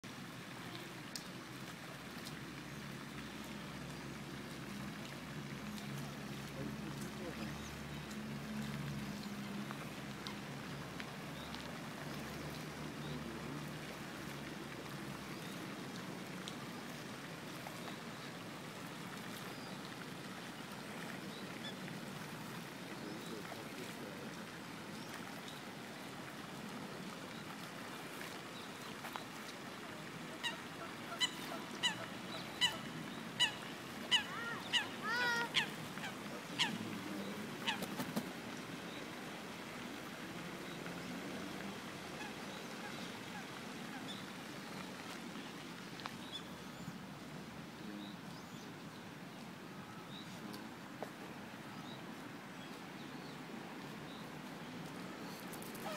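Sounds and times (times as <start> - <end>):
steady outdoor hiss: 0.0 - 55.9.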